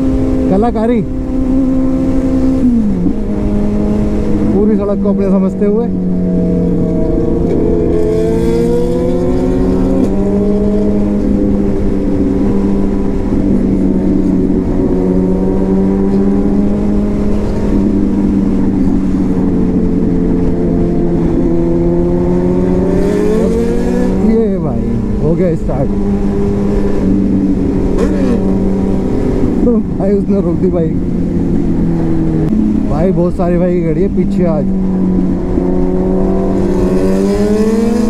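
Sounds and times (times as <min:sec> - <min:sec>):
heavy wind rush: 0:00.0 - 0:38.0
motorcycle engine at speed: 0:00.0 - 0:38.0.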